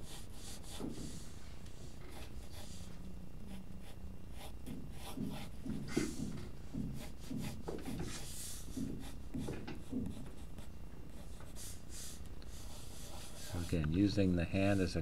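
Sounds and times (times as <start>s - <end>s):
pencil rubbing on paper: 0.0s - 2.9s, 3.5s - 13.9s.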